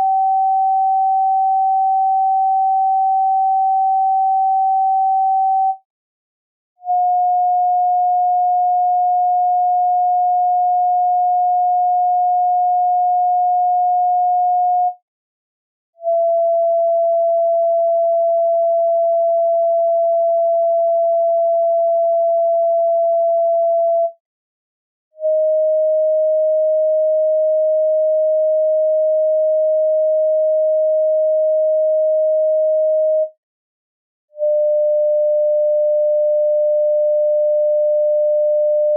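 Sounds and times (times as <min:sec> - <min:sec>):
pure sine tones: 0:00.0 - 0:05.8, 0:06.8 - 0:15.0, 0:16.0 - 0:24.2, 0:25.2 - 0:33.4, 0:34.4 - 0:38.9.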